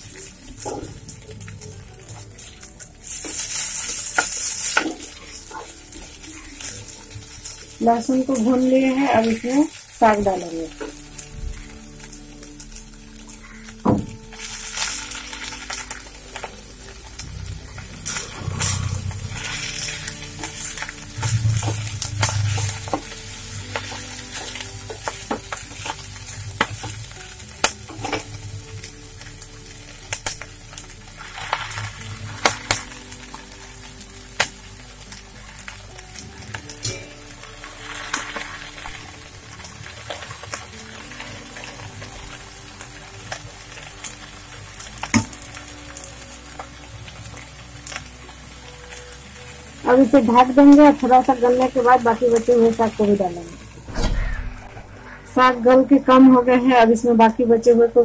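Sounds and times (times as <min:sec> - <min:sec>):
greens sizzling in oil: 0:00.0 - 0:54.2.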